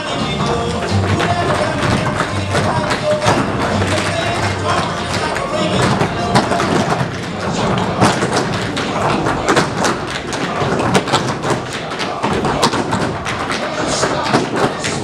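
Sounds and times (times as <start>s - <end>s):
tap shoes on stage floor: 0.0s - 15.0s.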